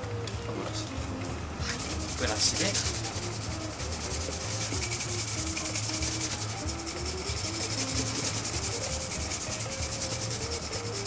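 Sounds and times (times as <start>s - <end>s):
shoe brush scrubbing leather sole: 1.7s - 11.0s.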